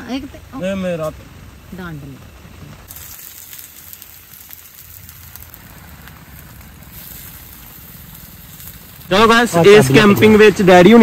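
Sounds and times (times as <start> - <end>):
rain hissing on a tent: 0.0 - 11.0
oil sizzling and crackling: 1.1 - 11.0.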